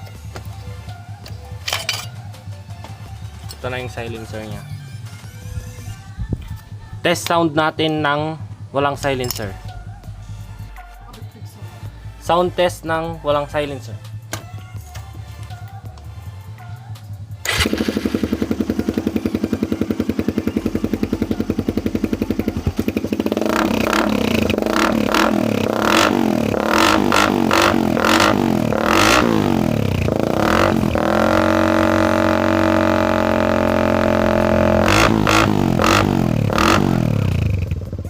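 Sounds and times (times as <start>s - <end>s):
motorcycle engine revving: 0.0s - 11.1s, 15.1s - 38.0s.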